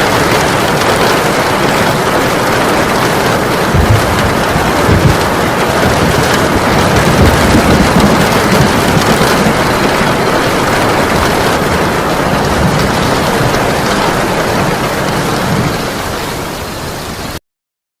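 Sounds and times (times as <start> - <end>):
heavy rain pouring: 0.0 - 17.4.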